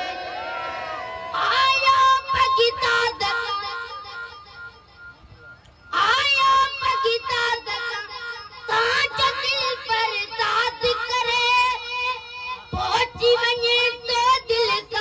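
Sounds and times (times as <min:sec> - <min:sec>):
boy singing devotional song: 0:01.4 - 0:04.7, 0:05.9 - 0:15.0.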